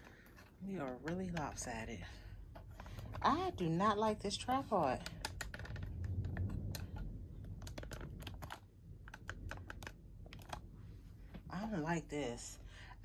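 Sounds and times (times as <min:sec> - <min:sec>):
low rumbling handling noise: 0:00.0 - 0:11.6.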